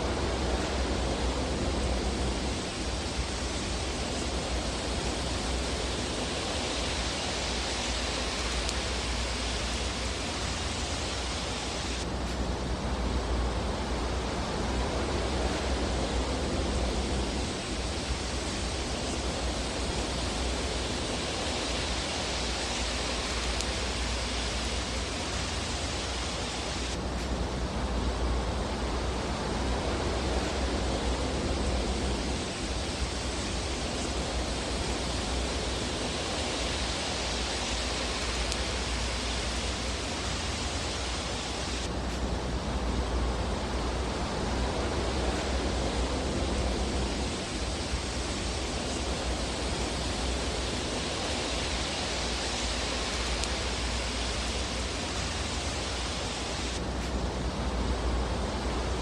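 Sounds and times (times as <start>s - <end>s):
fire hissing and rumbling: 0.0s - 59.0s.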